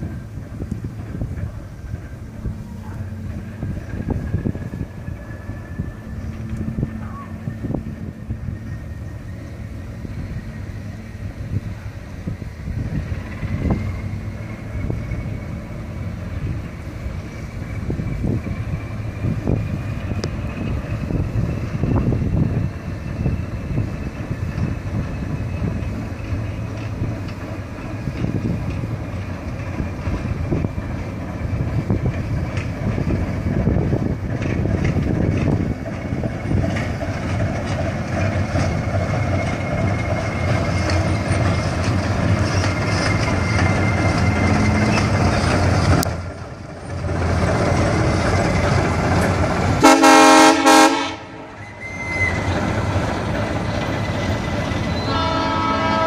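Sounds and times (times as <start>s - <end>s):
wheels clicking over rail joints: 0.0s - 49.8s, 51.5s - 56.0s
locomotive engine rumble: 0.0s - 56.0s.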